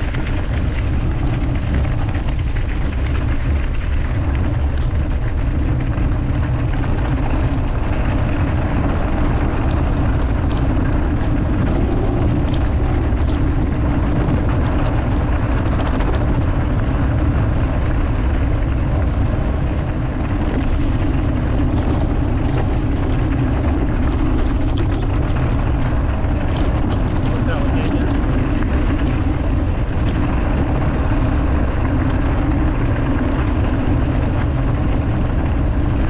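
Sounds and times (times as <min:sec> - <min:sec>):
bike tyres rumbling on track: 0:00.0 - 0:36.0
wind buffeting microphone: 0:00.0 - 0:36.0.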